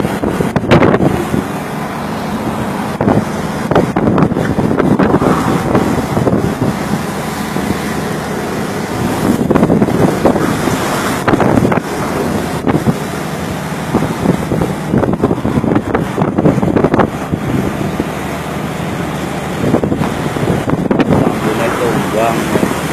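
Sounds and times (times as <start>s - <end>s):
waves rushing: 0.0s - 22.9s
wind buffeting microphone: 0.0s - 22.9s.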